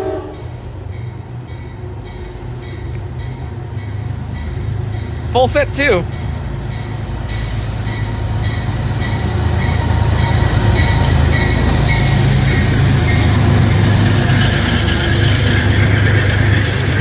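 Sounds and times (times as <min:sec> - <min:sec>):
diesel locomotive engine drone: 0:00.0 - 0:17.0
train wheels on rails: 0:00.0 - 0:17.0.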